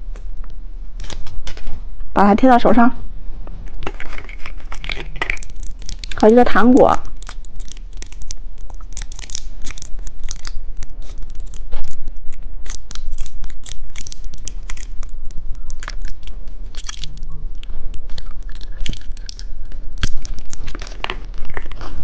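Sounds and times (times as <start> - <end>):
plastic packaging crinkling: 3.6 - 22.0.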